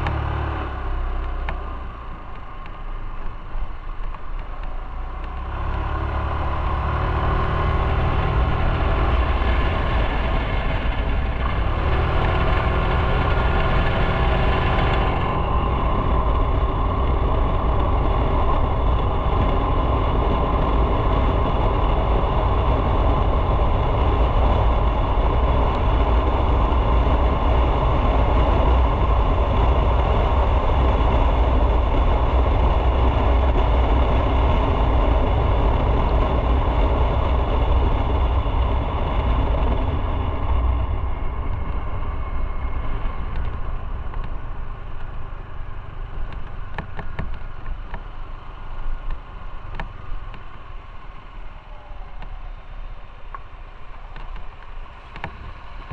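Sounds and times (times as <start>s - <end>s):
motorcycle engine rumble: 0.0s - 55.9s
rushing wind noise: 3.6s - 55.9s.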